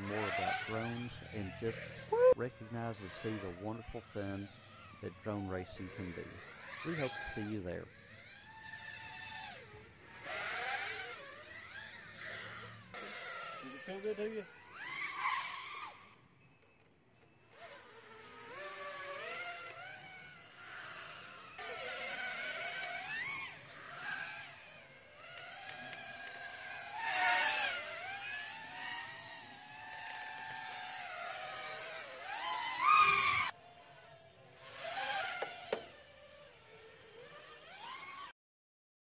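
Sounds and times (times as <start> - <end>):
racing drones whining: 0.0 - 16.5, 17.1 - 38.3.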